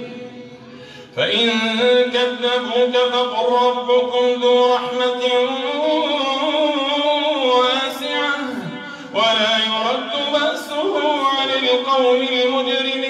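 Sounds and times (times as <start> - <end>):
man chanting a recitation: 0.0 - 13.0.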